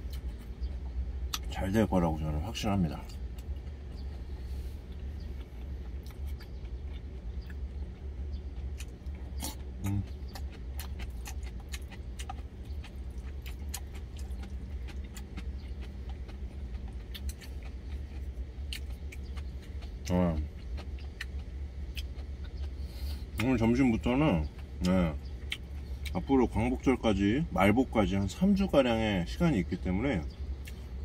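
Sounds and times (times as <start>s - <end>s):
chewing and mouth noises: 0.0s - 1.6s, 2.5s - 26.9s, 30.3s - 31.0s.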